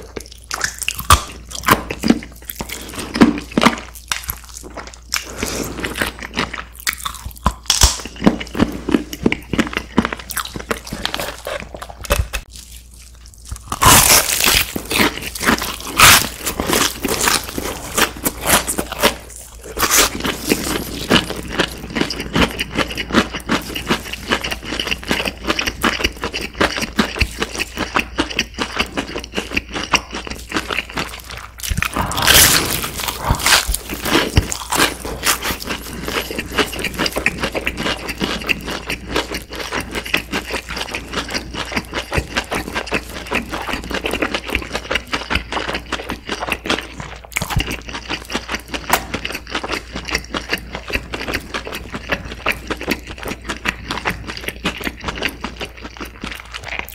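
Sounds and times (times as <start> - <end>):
loud crunchy bite: 0.0 - 9.6, 13.5 - 51.4
chewing crispy fried chicken: 0.0 - 56.9.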